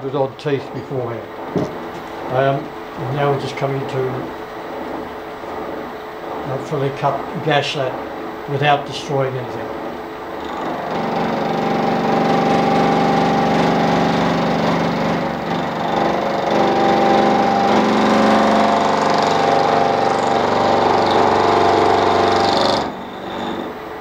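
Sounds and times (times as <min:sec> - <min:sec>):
milling machine cutting metal: 0:01.4 - 0:24.0.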